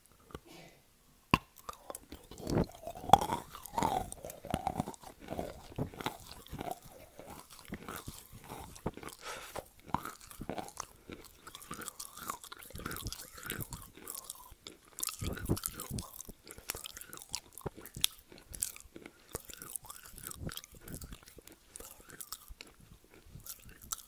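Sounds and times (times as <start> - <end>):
chalk crunching and chewing: 1.4 - 24.0.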